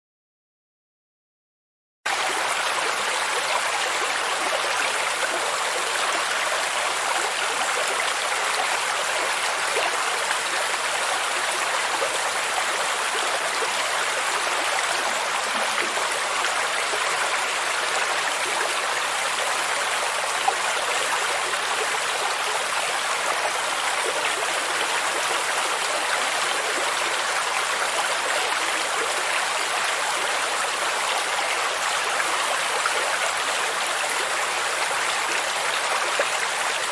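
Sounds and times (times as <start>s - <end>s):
stream water rushing: 2.1s - 36.9s.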